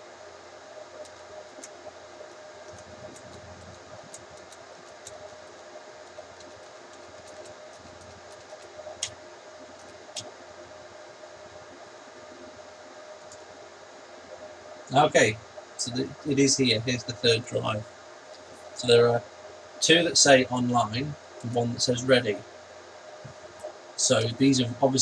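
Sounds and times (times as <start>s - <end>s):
server cooling fans humming: 0.0s - 25.0s.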